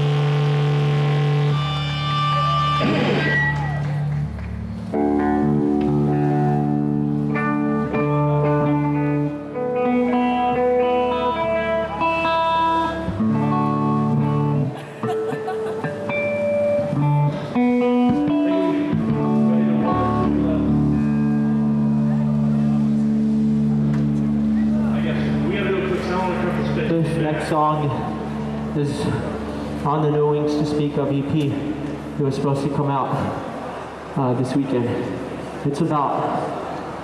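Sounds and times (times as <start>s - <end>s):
guitar notes ringing: 0.0s - 3.8s, 4.9s - 32.2s
live band playing: 0.0s - 30.8s.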